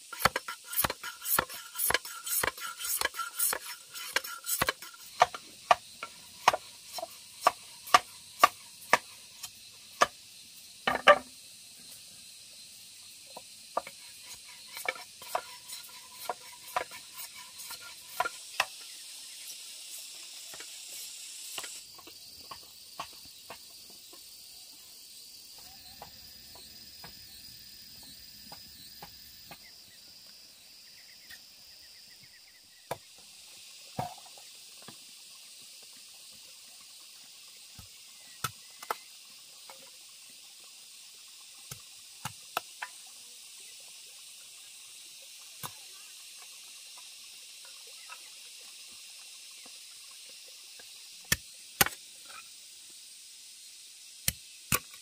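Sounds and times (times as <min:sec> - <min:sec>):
food sizzling in a pan: 0:00.0 - 0:27.9, 0:32.9 - 0:55.0.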